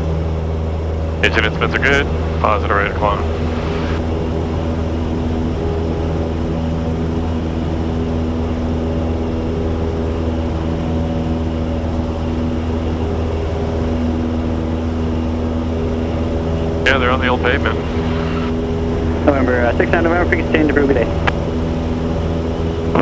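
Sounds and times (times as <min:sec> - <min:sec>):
propeller airplane engine droning: 0:00.0 - 0:23.0.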